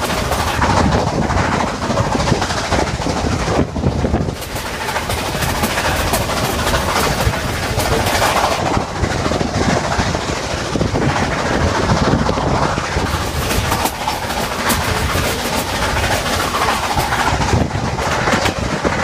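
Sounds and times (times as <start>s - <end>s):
train rumbling along track: 0.0s - 19.0s
wheels clicking over rail joints: 0.0s - 19.0s.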